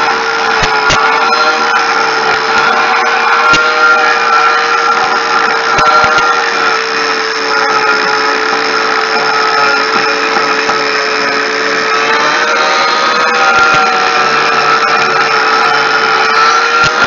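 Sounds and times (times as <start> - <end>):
angle grinder whining: 0.0 - 17.0.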